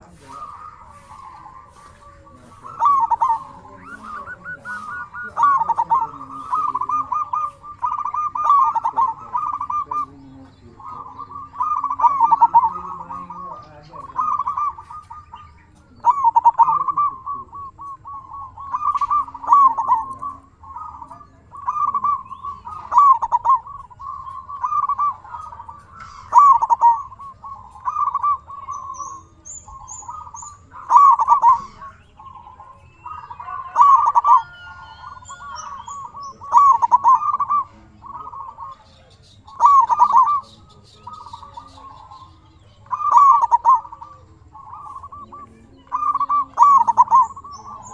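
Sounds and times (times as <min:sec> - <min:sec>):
dove cooing: 0:00.0 - 0:47.9
small birds chirping: 0:00.0 - 0:47.9.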